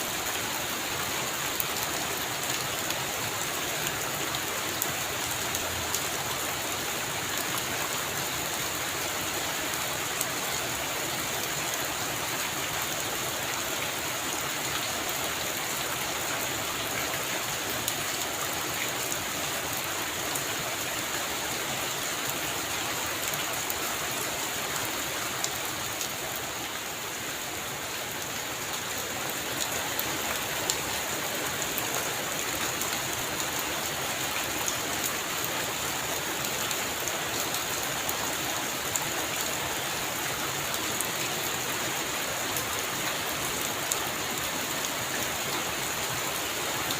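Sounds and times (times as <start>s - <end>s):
heavy rain on a roof: 0.0s - 46.9s.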